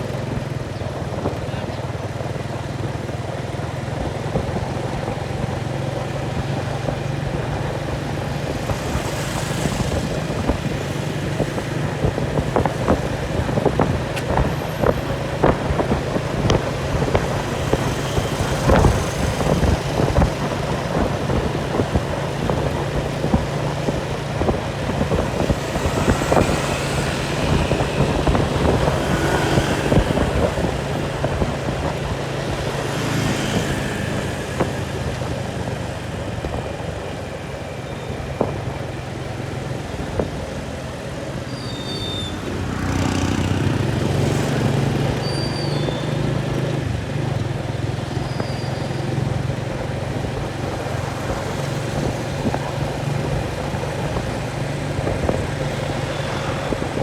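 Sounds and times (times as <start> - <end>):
engine humming: 3.7 - 57.0.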